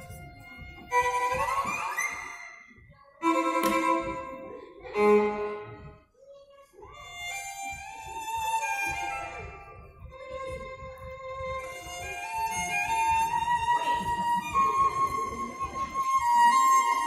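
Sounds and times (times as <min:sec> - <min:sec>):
violin music with sliding notes: 0:00.0 - 0:06.0, 0:06.9 - 0:17.0.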